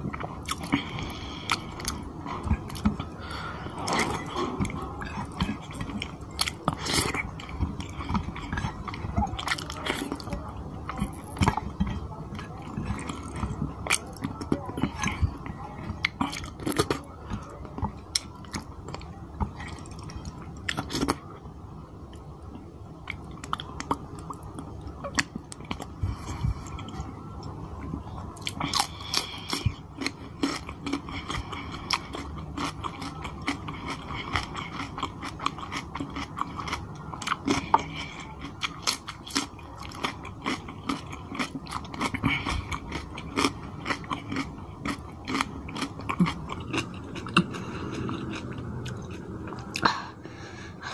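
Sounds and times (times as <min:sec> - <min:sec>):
wet chewing: 0:00.0 - 0:21.2, 0:23.0 - 0:50.0.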